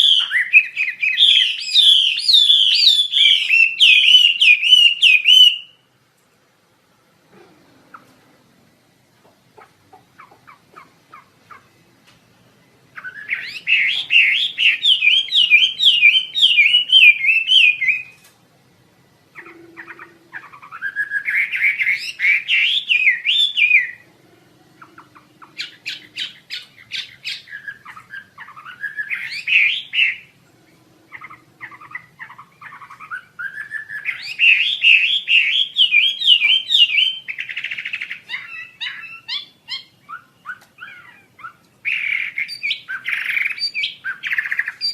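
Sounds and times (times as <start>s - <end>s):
songbird whistling phrases: 0.0s - 5.9s, 13.0s - 18.2s, 19.3s - 24.1s, 24.8s - 44.9s.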